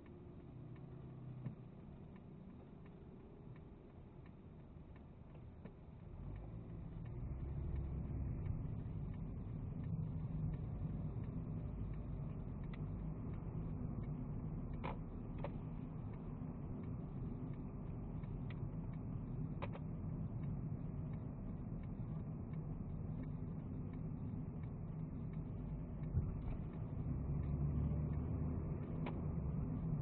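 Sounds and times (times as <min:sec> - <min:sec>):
car engine and tyre rumble: 0:00.0 - 0:30.0
faint clicks: 0:00.0 - 0:30.0.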